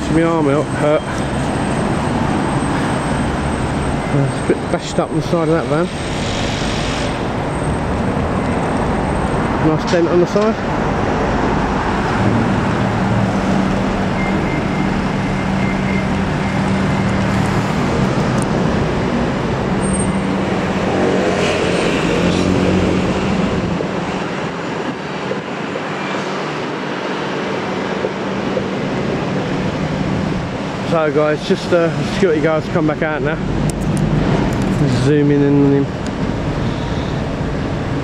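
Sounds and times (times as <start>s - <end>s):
street traffic noise: 0.0s - 38.0s.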